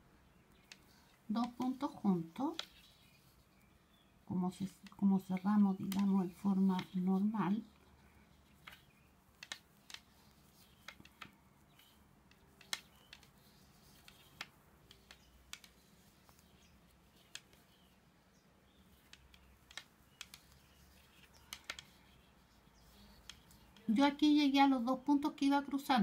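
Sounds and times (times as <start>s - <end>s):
wooden knitting needles clicking: 0.3s - 25.5s.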